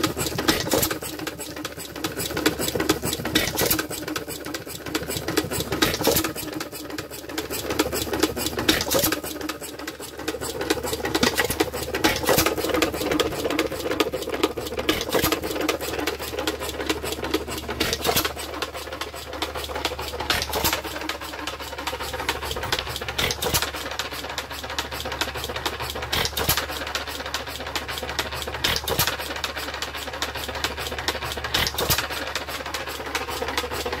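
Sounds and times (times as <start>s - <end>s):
engine knock: 0.0s - 34.0s
hit-and-miss engine clattering: 0.0s - 34.0s.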